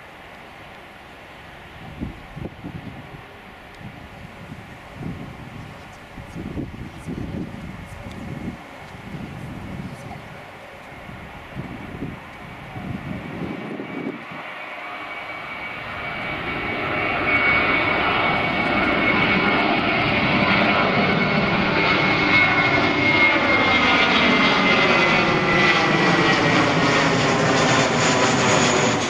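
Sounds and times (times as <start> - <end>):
jet engine roar: 0.0 - 29.0
high jet whine falling in pitch: 1.3 - 29.0.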